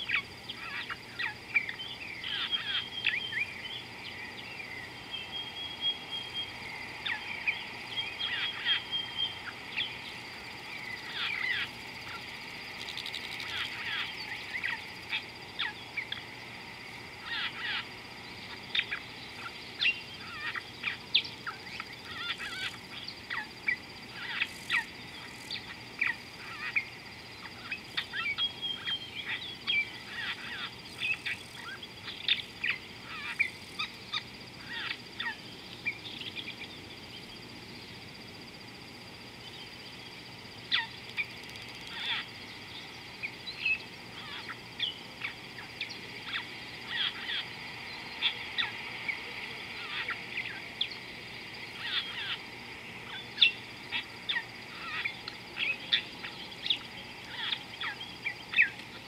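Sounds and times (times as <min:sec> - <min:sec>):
wild birds chirping: 0:00.0 - 0:59.0.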